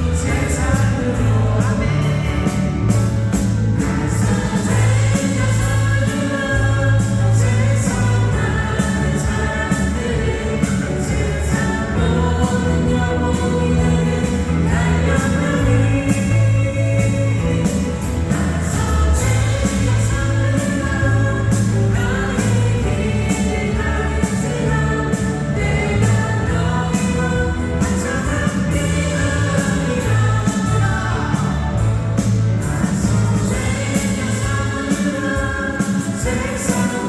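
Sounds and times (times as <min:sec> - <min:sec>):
group singing worship song: 0:00.0 - 0:37.0.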